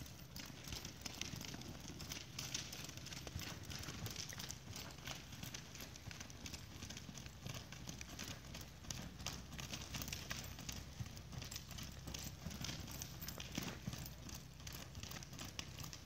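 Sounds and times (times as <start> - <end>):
horse hoofbeats on dirt: 0.0 - 16.0.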